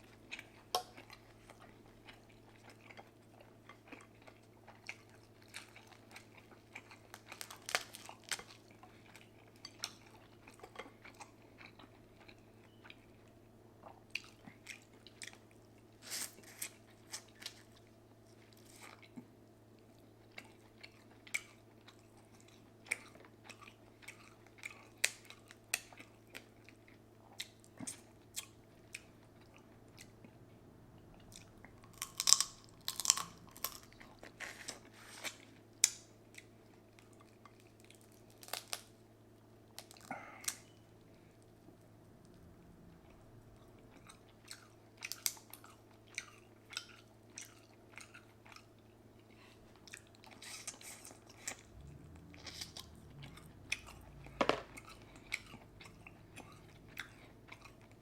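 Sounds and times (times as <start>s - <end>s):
faint low hum: 0.0s - 58.0s
person chewing and crunching food: 0.0s - 58.0s.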